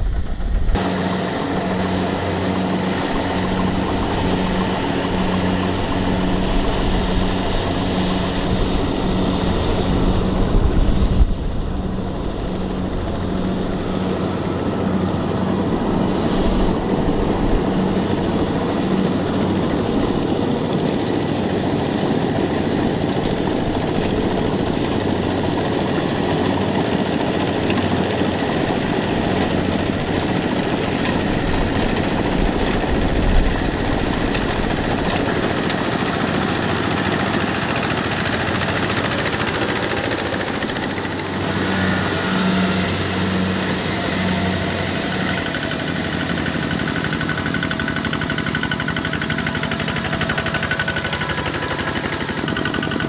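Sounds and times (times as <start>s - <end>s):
diesel tractor engines droning: 0.0s - 53.0s.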